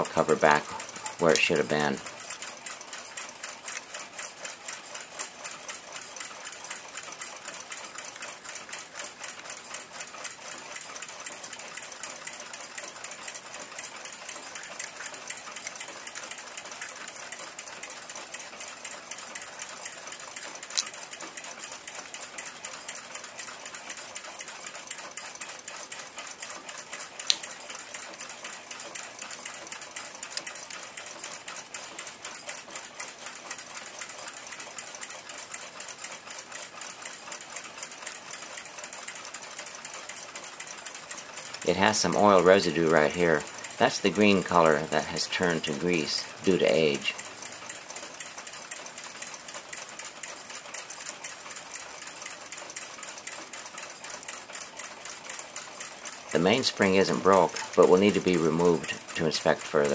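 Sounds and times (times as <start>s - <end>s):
clockwork ticking: 0.0s - 59.9s.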